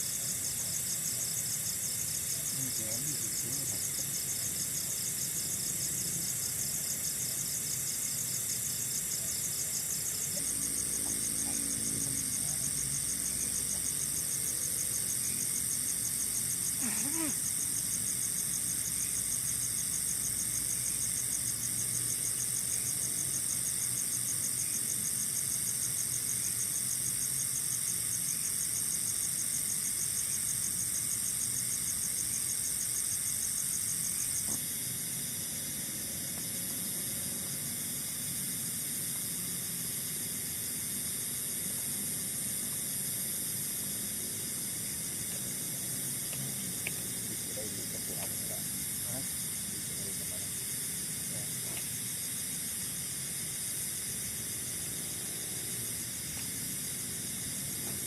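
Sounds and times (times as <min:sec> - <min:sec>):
insects trilling and pulsing: 0:00.0 - 0:58.0.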